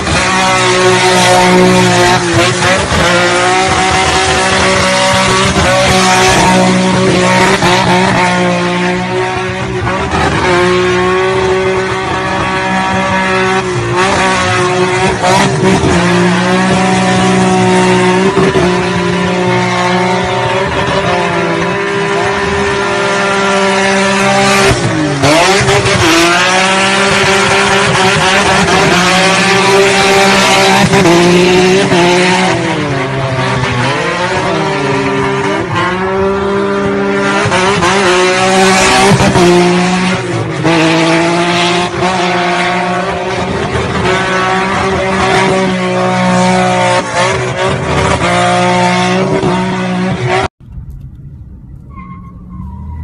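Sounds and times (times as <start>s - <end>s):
car engine revving high: 0.0s - 50.5s.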